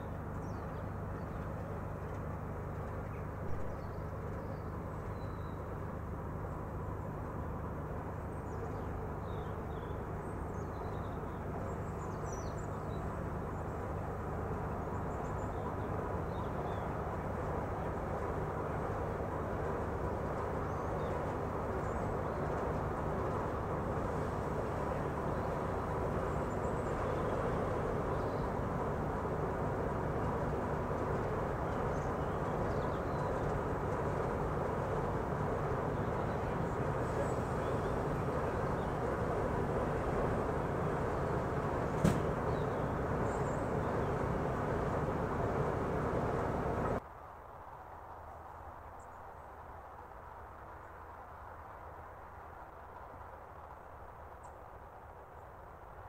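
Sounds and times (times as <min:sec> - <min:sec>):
distant engine rumble: 0:00.0 - 0:47.0.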